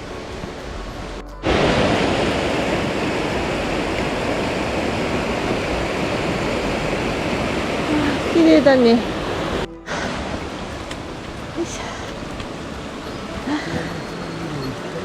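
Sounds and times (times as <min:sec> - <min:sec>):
soft outdoor ambience: 0:00.0 - 0:15.0
stream rushing over rocks: 0:00.0 - 0:15.0.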